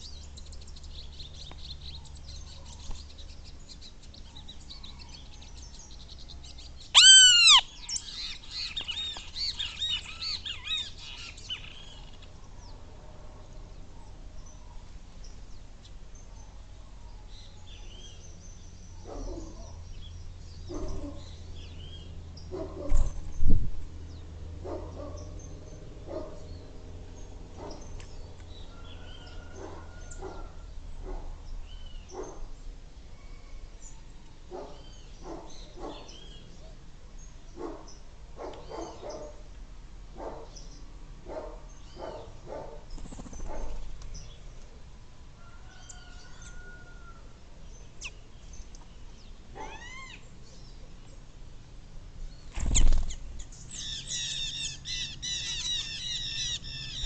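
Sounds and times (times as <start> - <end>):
wild birds chirping and calling: 0.0 - 23.4, 24.1 - 39.5, 40.1 - 51.3, 52.0 - 57.0.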